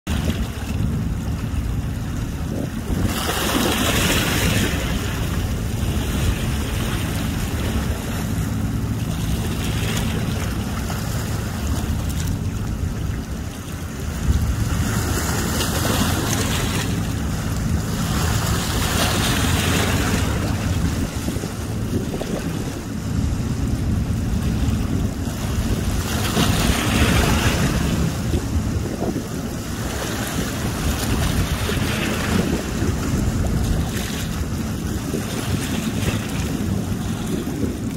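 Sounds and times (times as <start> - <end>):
low engine hum: 0.1 - 37.9
water splashing against boat hull: 0.1 - 37.9
wind buffeting microphone: 0.1 - 37.9.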